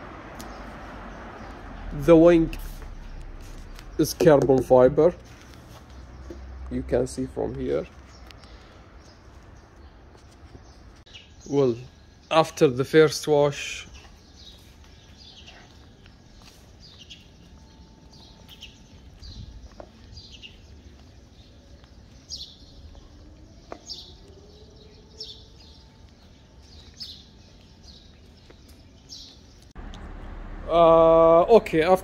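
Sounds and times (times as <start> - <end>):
faint outdoor background noise: 0.0 - 32.0.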